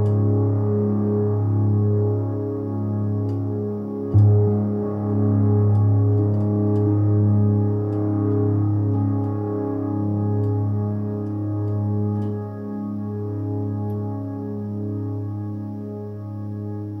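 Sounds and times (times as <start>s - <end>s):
synthesizer chords over deep bass: 0.0s - 17.0s.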